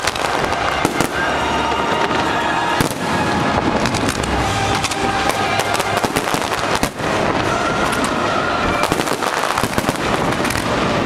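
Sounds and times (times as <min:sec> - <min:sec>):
crackling fireworks stars: 0:00.0 - 0:11.0
fireworks bangs: 0:00.0 - 0:11.0.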